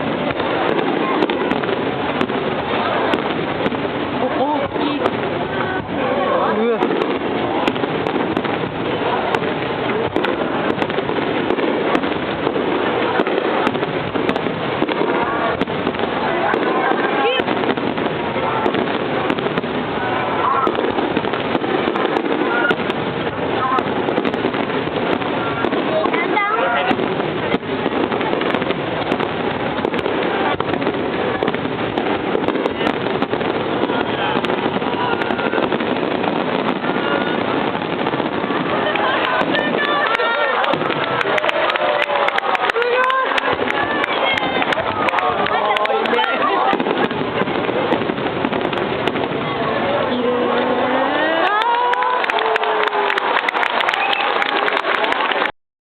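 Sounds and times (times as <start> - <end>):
fireworks bangs and crackle: 0.0 - 55.5
sharp firework cracks: 0.0 - 55.5.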